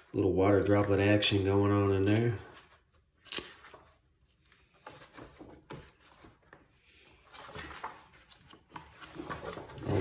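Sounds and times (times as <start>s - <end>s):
book pages flipping: 0.0s - 10.0s
paper rustling: 0.0s - 10.0s.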